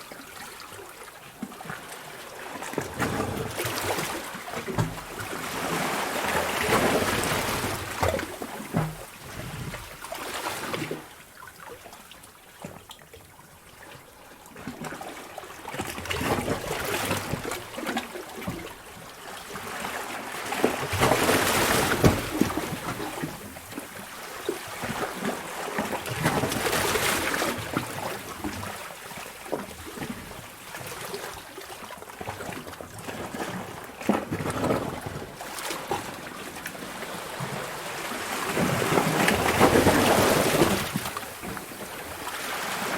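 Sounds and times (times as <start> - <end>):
water trickling and sloshing: 0.0 - 42.9
waves surging in a sea cave: 0.0 - 42.9.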